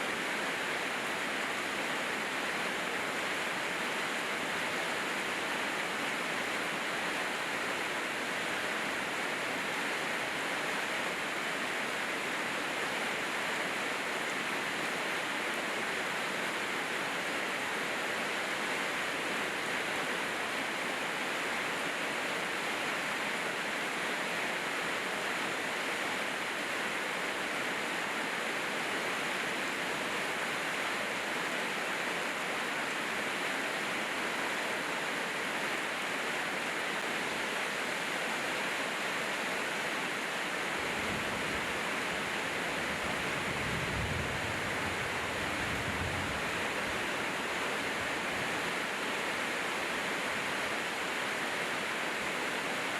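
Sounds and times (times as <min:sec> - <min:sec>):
rain falling steadily: 0:00.0 - 0:52.9.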